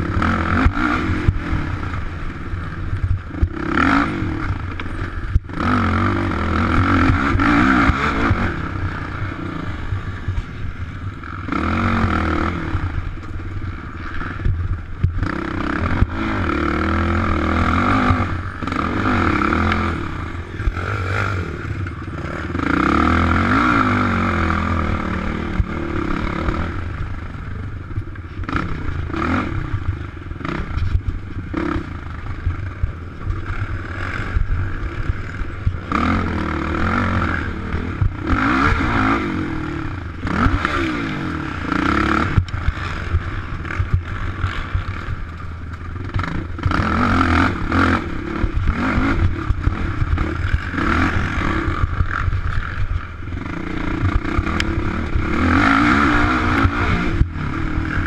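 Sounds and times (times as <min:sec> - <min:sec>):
atv engine revving: 0:00.0 - 0:58.0
vehicle clattering over rough ground: 0:00.0 - 0:58.0.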